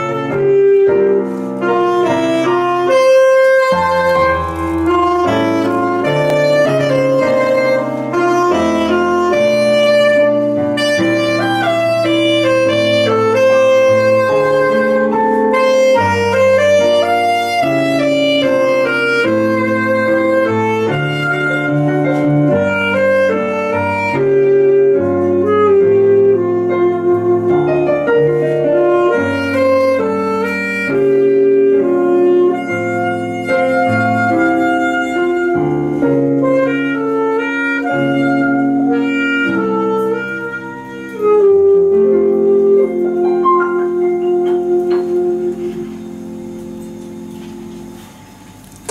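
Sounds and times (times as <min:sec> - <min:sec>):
bass notes: 0:00.0 - 0:48.9
electric piano chords: 0:00.0 - 0:48.9
saxophone melody: 0:00.0 - 0:48.9.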